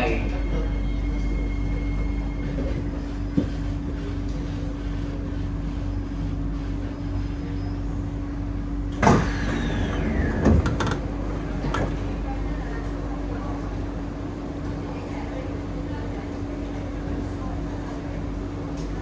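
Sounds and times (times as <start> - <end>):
train humming with low rumble: 0.0 - 19.0.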